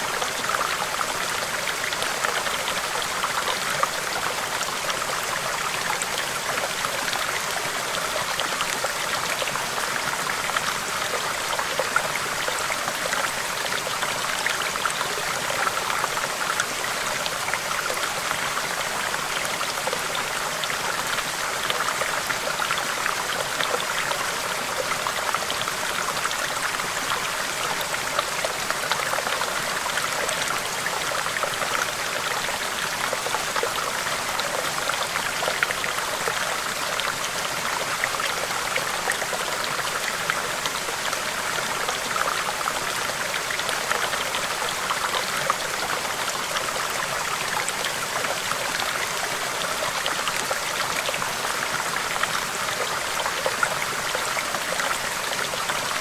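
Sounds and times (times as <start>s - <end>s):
stream babbling over rocks: 0.0s - 56.0s.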